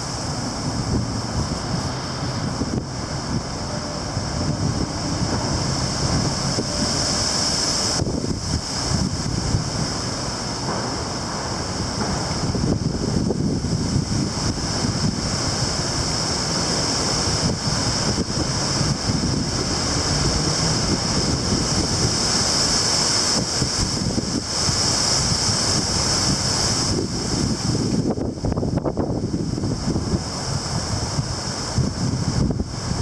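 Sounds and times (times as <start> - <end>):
gusty wind buffeting microphone: 0.0 - 33.0
high-pitched hiss: 0.0 - 33.0.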